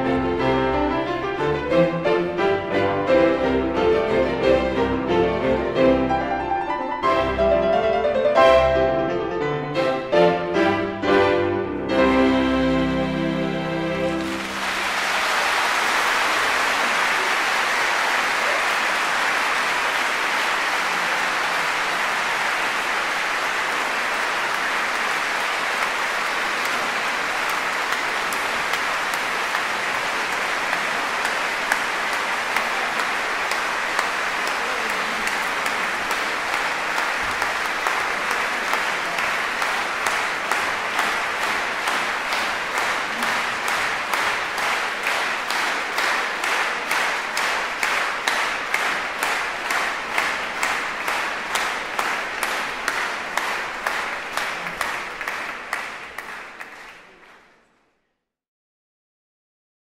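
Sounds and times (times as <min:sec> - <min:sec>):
audience applauding: 0:00.0 - 0:57.8.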